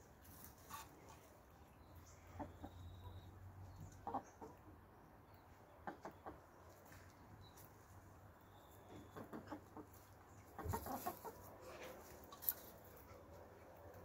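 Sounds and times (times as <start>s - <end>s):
hens pecking in soil: 0.0s - 2.9s, 5.6s - 14.0s
hens clucking: 0.2s - 7.8s, 8.8s - 13.8s.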